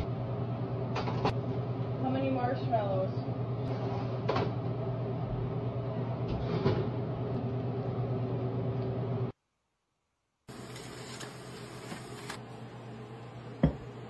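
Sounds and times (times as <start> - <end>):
kitchen hum: 0.0 - 9.4, 10.5 - 14.0.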